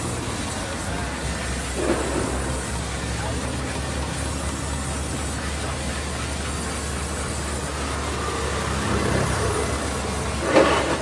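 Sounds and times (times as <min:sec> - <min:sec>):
band sawmill drone: 0:00.0 - 0:11.0.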